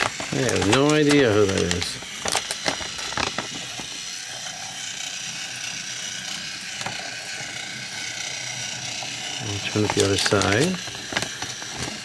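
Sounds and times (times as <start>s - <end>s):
toy train motor whirring: 0.0s - 12.0s.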